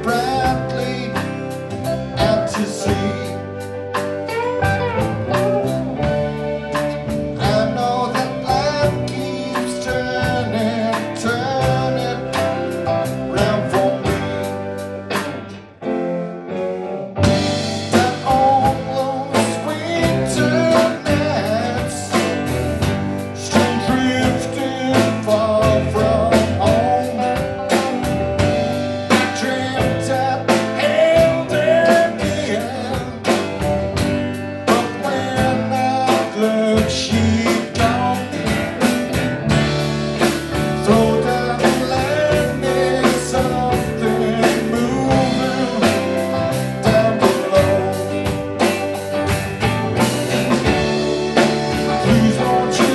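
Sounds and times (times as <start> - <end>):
drum kit: 0.0 - 52.9
electric bass: 0.0 - 52.9
electric keyboard: 0.0 - 52.9
guitars: 0.0 - 52.9.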